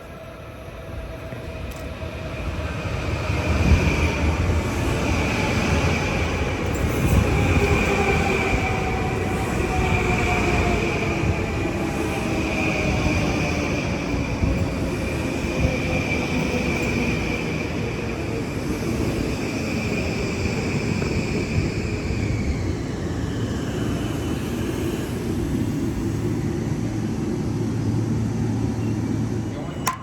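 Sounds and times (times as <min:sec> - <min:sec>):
train passing rumble: 0:00.0 - 0:30.0.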